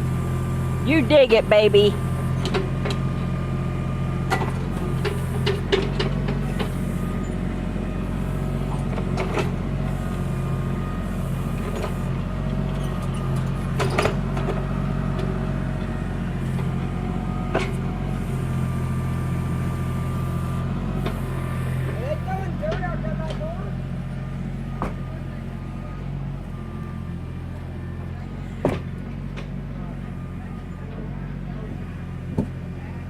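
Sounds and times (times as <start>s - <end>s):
backhoe engine running: 0.0s - 33.0s.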